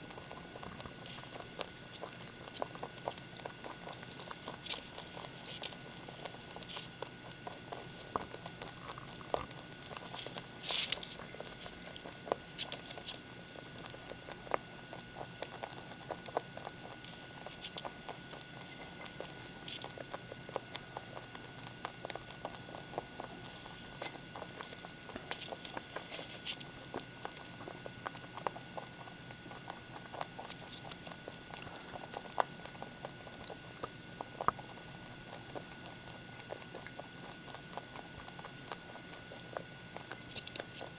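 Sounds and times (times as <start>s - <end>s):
rabbits crunching dry food: 0.0s - 40.9s.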